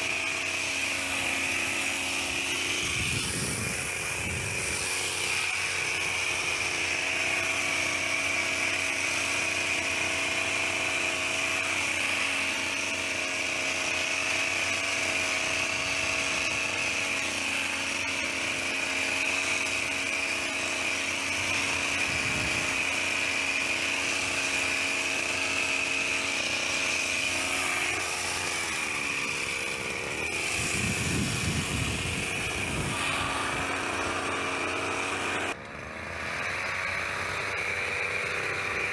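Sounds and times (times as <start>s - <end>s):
hedge trimmer engine running: 0.0s - 38.9s.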